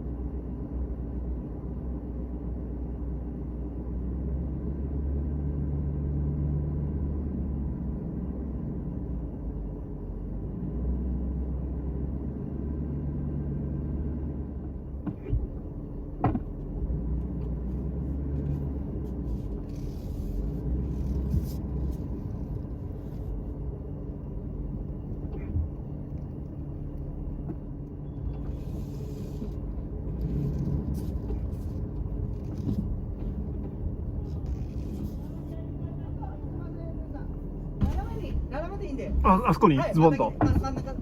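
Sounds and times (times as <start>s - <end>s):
car rumbling slowly: 0.0s - 41.0s.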